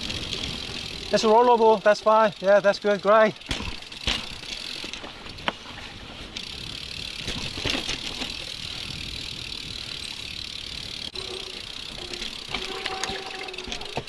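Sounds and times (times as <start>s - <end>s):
bike rattling over bumps: 0.0s - 14.0s
bike tyres on dirt: 0.0s - 14.0s.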